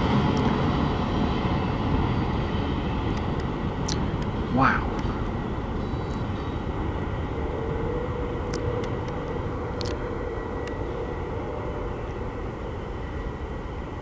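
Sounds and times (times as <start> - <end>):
freight train rolling on track: 0.0 - 14.0.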